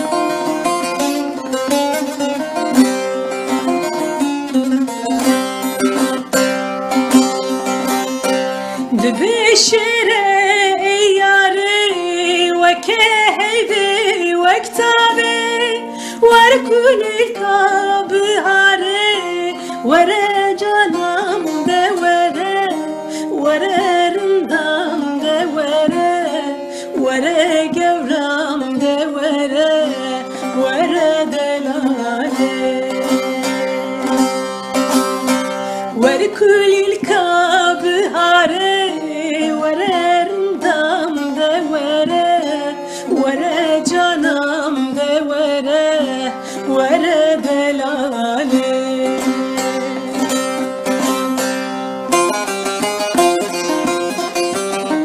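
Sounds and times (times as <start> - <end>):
person singing folk song: 0.0 - 55.0
plucked string instrument: 0.0 - 55.0.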